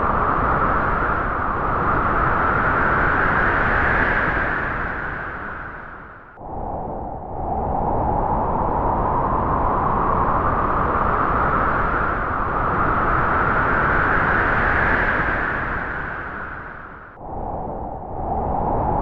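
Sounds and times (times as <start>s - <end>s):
wind gust whistling: 0.0s - 19.0s.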